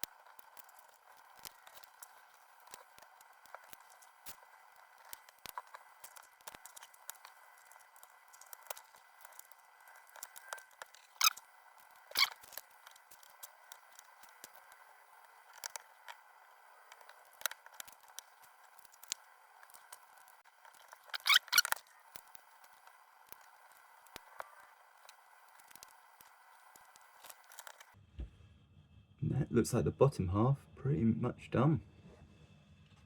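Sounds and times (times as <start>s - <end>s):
plastic bricks clicking and rattling: 0.0s - 27.9s.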